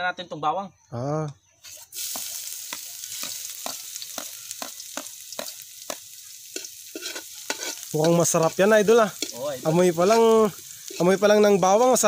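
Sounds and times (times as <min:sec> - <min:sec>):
garlic sizzling in oil: 0:01.6 - 0:12.0.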